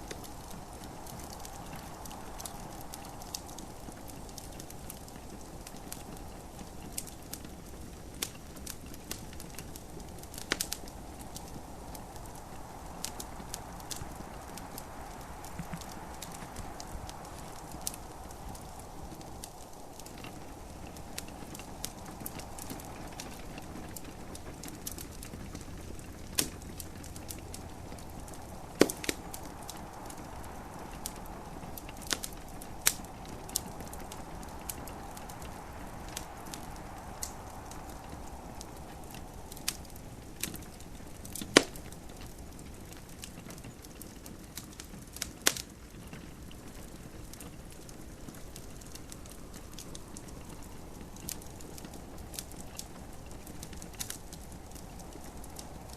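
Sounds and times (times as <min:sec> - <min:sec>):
gentle rain hissing: 0:00.0 - 0:55.9
wood fire crackling and popping: 0:00.0 - 0:55.9.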